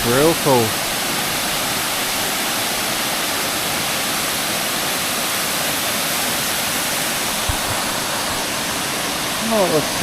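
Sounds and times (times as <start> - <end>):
waterfall pouring: 0.0 - 10.0.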